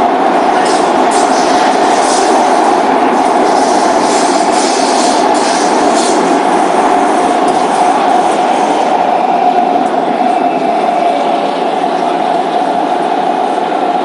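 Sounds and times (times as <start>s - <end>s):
wheel and track rumble: 0.0s - 14.0s.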